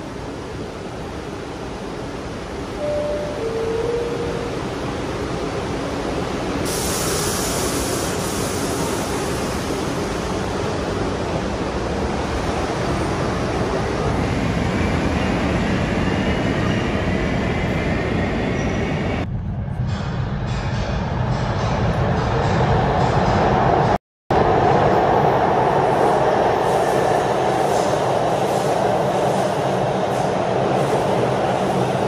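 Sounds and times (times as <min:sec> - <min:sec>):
subway wheels clattering on rails: 0:00.0 - 0:32.0.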